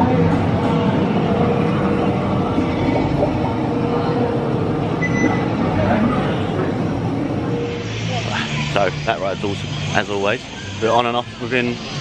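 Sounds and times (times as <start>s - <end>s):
low hum: 0.0s - 12.0s
murmur of people: 0.0s - 12.0s.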